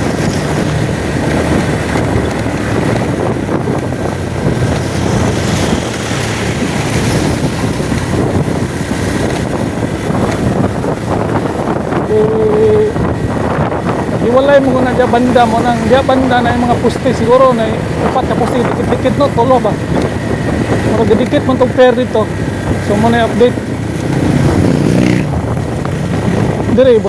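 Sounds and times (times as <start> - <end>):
moving vehicle noise: 0.0 - 27.0
wind on microphone: 0.0 - 27.0.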